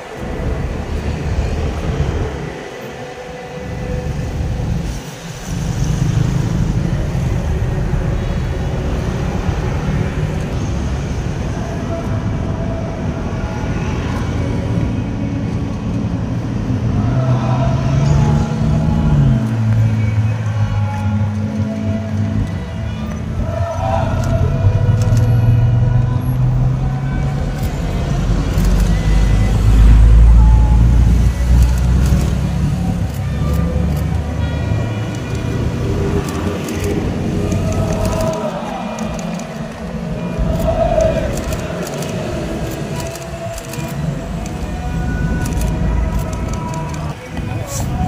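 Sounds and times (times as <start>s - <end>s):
low rumble of traffic: 0.0s - 48.0s.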